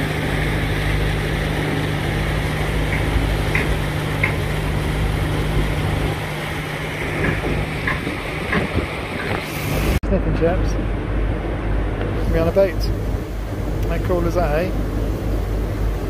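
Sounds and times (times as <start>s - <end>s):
boat engine humming: 0.0s - 16.0s
boat wake churning: 0.0s - 16.0s.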